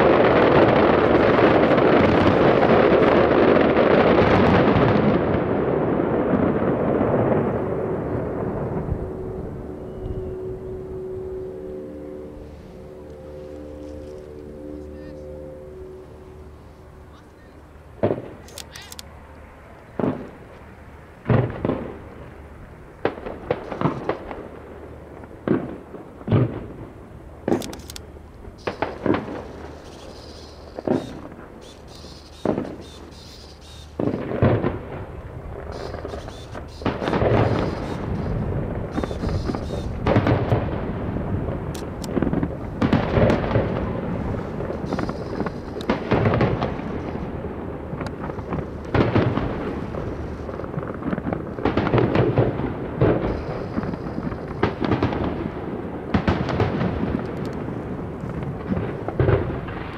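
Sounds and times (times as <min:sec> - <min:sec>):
fireworks bangs and crackling: 0:00.0 - 0:15.4, 0:17.1 - 0:18.8, 0:19.9 - 0:59.9.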